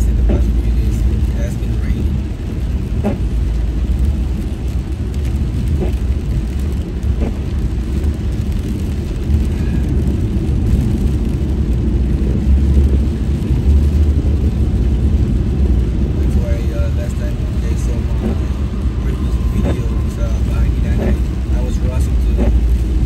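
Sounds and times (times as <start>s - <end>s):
car cabin road noise: 0.0s - 23.0s
tyres on wet pavement: 0.0s - 23.0s.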